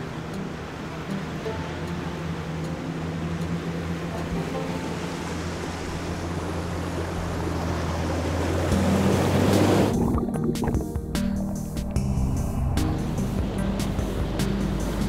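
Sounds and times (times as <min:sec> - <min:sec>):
engine humming: 0:00.0 - 0:15.0
water washing and splashing: 0:00.0 - 0:15.0.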